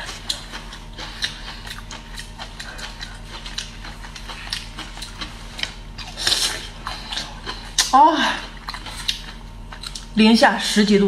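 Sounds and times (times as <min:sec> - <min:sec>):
crisp chewing clicks and crackles: 0:00.0 - 0:08.0, 0:08.6 - 0:10.2.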